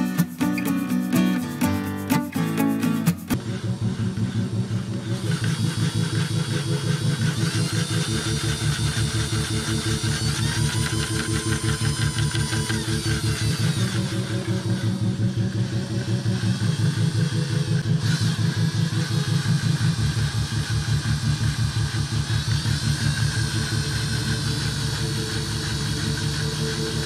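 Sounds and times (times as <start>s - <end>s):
model engine pulsing beat: 0.0s - 27.0s
cordless drill motor drone: 3.4s - 27.0s.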